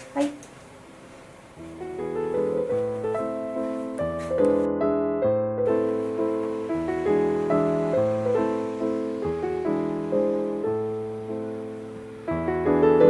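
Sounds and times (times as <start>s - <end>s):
gentle piano melody: 1.5s - 13.0s.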